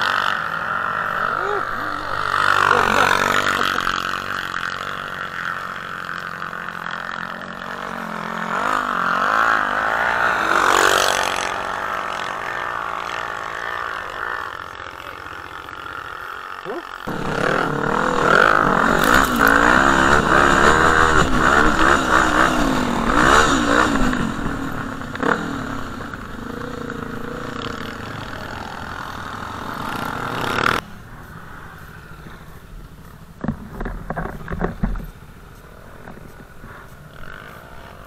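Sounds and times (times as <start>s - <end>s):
quad engine revving: 0.0s - 32.6s, 33.4s - 38.0s.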